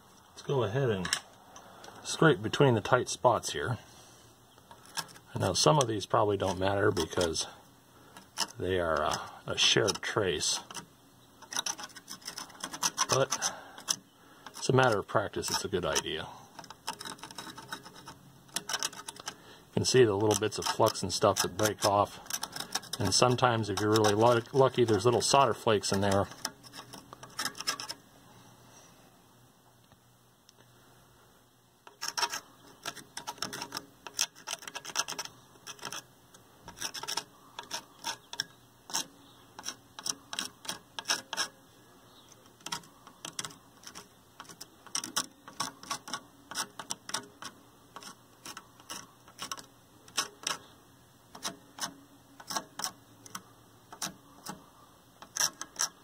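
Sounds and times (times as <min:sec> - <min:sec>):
metal pick scratching circuit board: 0:04.7 - 0:07.5, 0:08.1 - 0:28.0, 0:31.8 - 0:41.6, 0:42.2 - 0:50.7, 0:51.3 - 0:54.6, 0:55.2 - 0:56.0.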